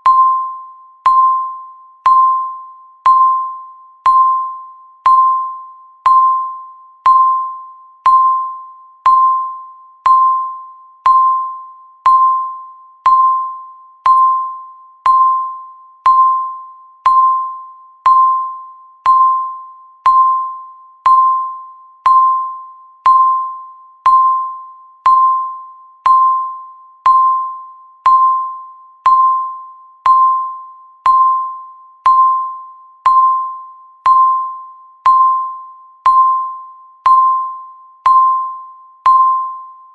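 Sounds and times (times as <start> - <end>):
timer tick pings: 0.0 - 39.9.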